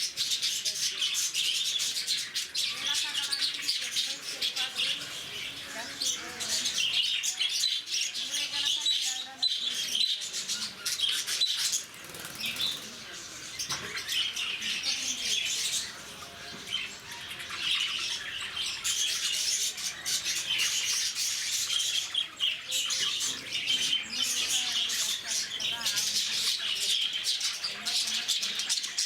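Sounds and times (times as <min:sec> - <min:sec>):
lovebirds chirping and squawking: 0:00.0 - 0:29.0.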